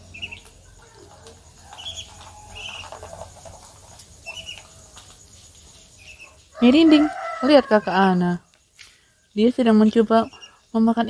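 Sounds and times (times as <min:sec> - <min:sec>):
ducklings peeping: 0:00.0 - 0:08.0, 0:09.6 - 0:11.0.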